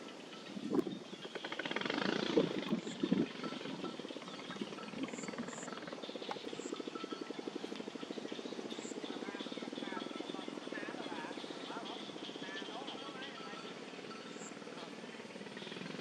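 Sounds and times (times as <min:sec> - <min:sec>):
rapid pulsing throb: 0:00.0 - 0:16.0.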